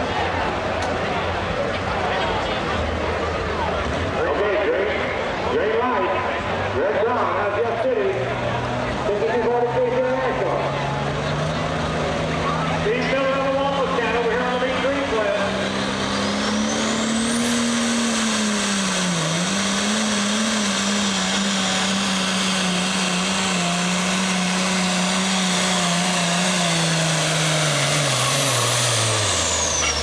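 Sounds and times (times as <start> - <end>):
diesel tractor engine at full throttle: 0.0 - 30.0.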